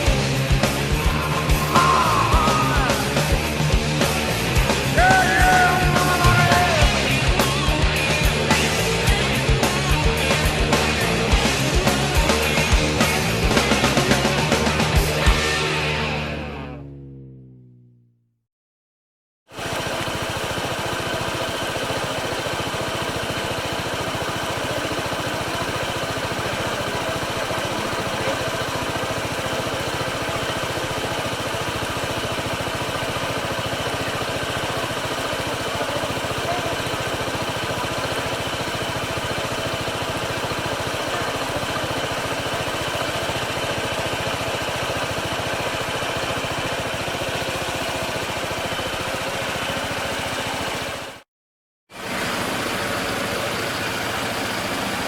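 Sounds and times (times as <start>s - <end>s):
motorcycle engine running steadily: 0.0s - 18.4s, 19.5s - 51.3s, 51.9s - 55.0s.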